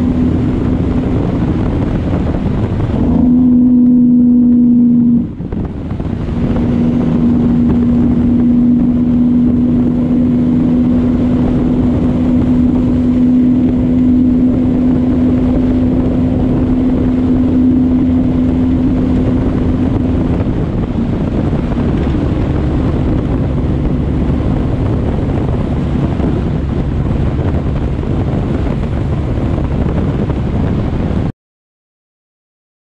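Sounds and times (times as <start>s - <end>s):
steady hum: 0.0s - 28.6s
road noise: 0.0s - 31.3s
truck engine drone: 0.0s - 31.3s
wind buffeting microphone: 0.0s - 31.3s.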